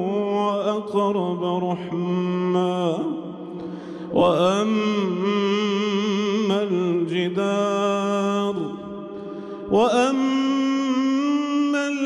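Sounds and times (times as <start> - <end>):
man chanting with echo: 0.0 - 12.0.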